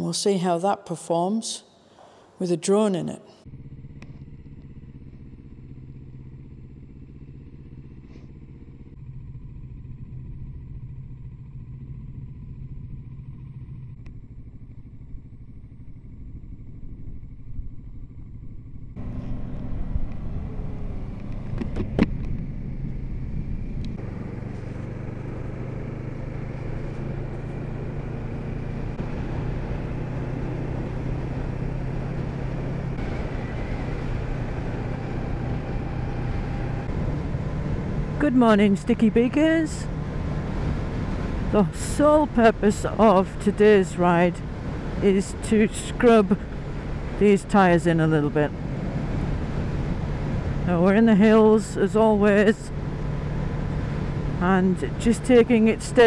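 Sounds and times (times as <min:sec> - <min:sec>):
motorcycle engine running: 0:03.4 - 0:56.0
wind and road noise: 0:03.4 - 0:56.0.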